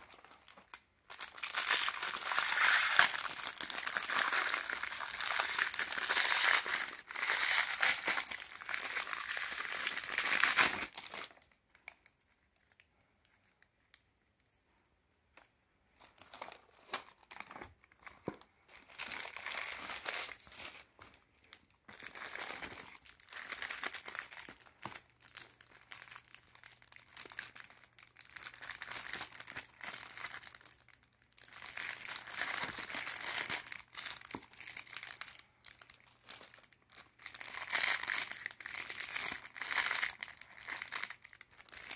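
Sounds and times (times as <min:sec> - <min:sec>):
plastic packaging crinkling: 0:00.0 - 0:14.0, 0:15.4 - 0:41.9.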